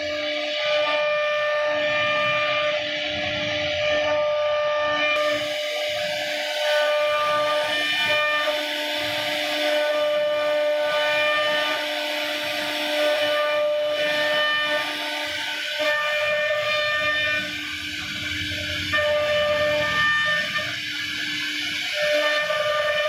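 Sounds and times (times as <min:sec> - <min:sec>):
router spindle high whine: 0:00.0 - 0:23.0.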